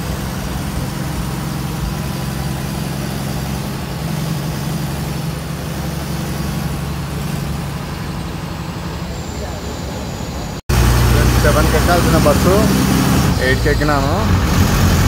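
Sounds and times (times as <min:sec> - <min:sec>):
faint high whine: 0:00.0 - 0:14.3
bus engine drone: 0:00.0 - 0:15.0.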